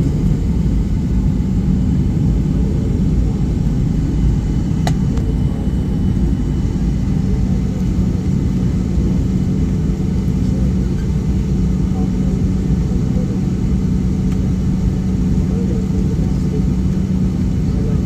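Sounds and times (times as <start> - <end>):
aircraft cabin low rumble: 0.0 - 18.0
constant low hum: 0.0 - 18.0.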